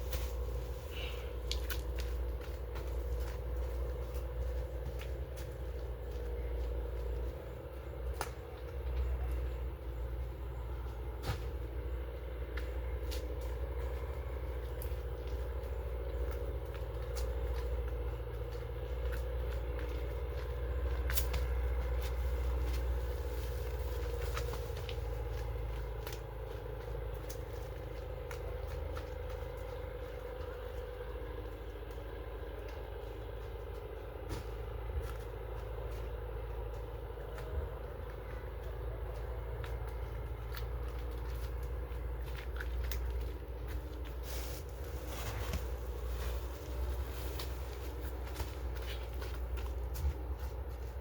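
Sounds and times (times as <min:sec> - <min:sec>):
engine running: 0:00.0 - 0:51.0.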